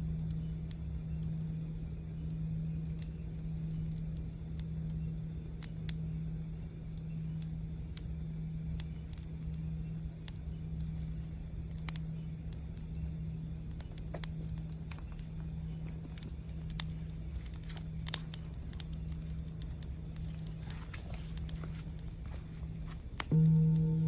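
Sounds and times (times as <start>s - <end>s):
campfire crackling: 0.0s - 24.0s
low hum: 0.0s - 24.0s.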